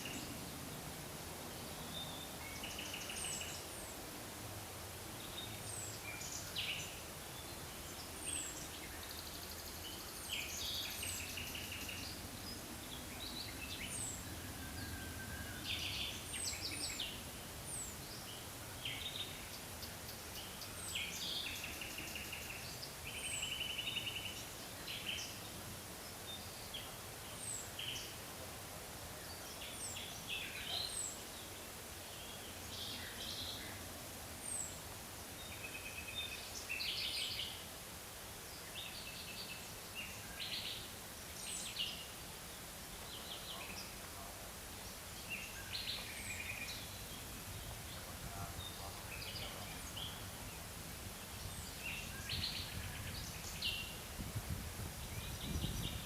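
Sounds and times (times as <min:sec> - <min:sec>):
faint forest ambience hiss: 0:00.0 - 0:56.0
forest birds chirping: 0:00.0 - 0:56.0.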